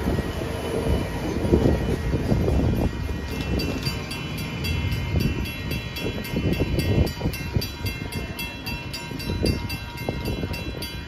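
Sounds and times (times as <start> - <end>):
train rumbling on tracks: 0.0 - 11.0.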